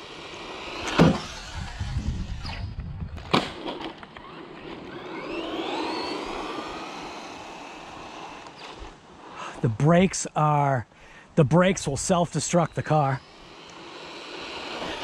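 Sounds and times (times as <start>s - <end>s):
toy car electric motor whining: 0.0s - 2.8s, 3.5s - 9.6s, 11.8s - 15.0s.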